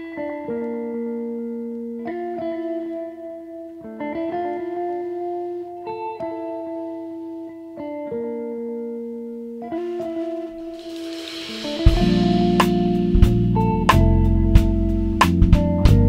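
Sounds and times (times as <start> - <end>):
plucked guitar tune: 0.0 - 16.0.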